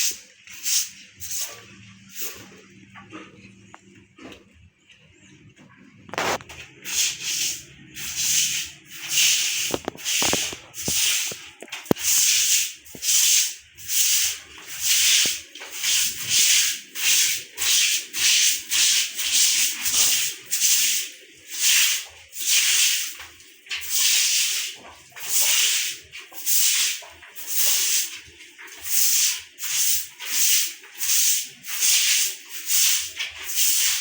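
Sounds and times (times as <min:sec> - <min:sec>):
broom scrubbing wet floor: 0:00.0 - 0:03.7, 0:06.1 - 0:34.0.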